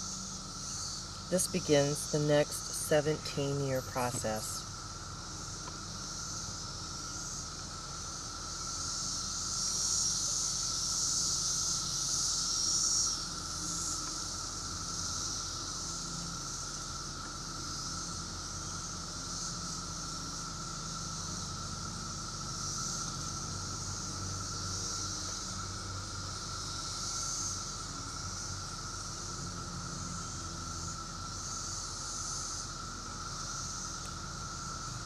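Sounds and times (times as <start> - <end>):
cicadas droning: 0.0 - 35.0.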